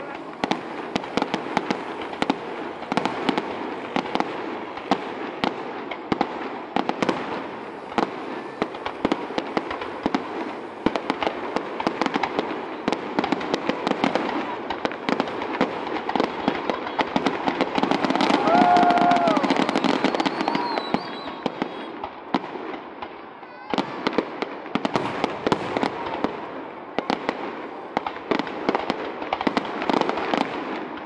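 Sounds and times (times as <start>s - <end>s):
fireworks bursting: 0.0s - 31.0s
fireworks crackle: 0.0s - 31.0s.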